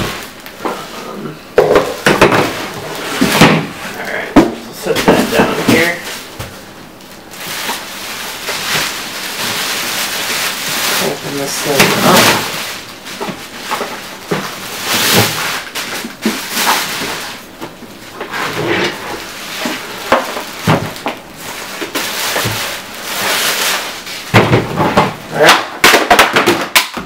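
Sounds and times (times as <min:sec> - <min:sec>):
plastic bag crinkling: 0:00.0 - 0:26.9.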